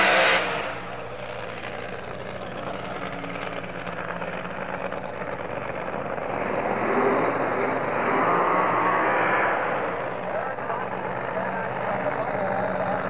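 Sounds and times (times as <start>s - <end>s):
supercharged engine roaring: 0.0s - 13.0s.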